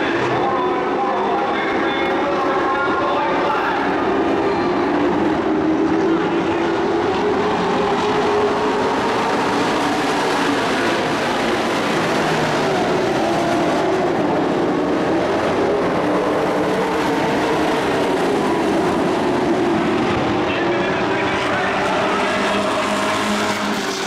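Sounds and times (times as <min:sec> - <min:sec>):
racing truck engines droning: 0:00.0 - 0:24.0.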